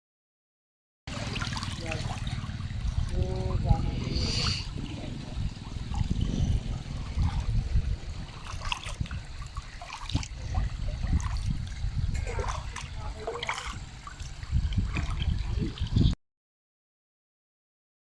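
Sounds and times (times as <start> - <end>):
steady low rumble: 1.1 - 16.2
water splashing into a pool: 1.1 - 16.2.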